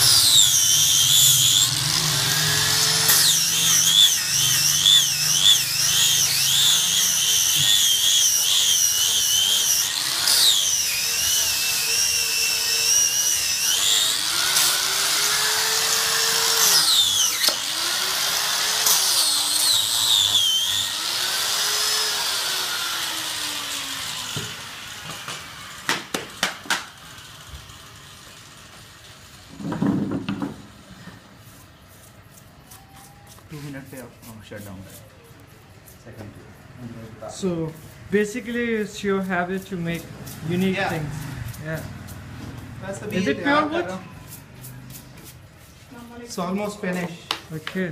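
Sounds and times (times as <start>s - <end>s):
angle grinder grinding wood: 0.0s - 47.9s.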